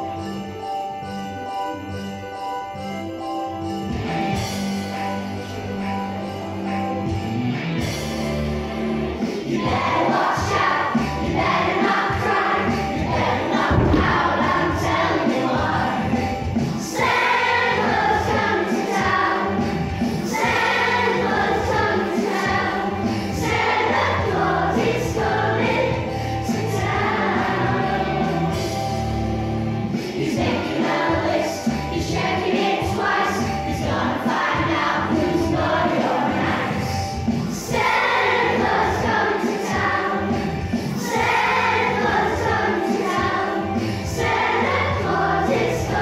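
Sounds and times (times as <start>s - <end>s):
musical accompaniment: 0.0s - 46.0s
children's choir singing: 8.3s - 46.0s.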